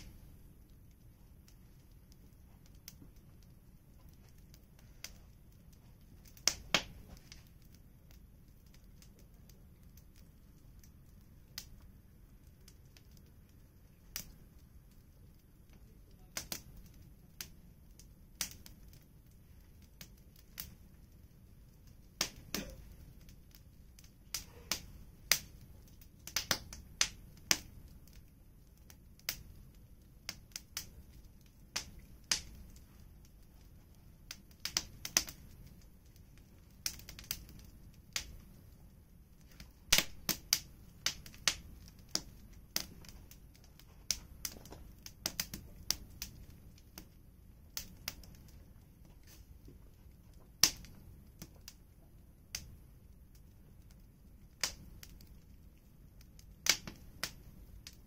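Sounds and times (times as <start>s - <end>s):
firewood crackling: 0.0s - 58.0s.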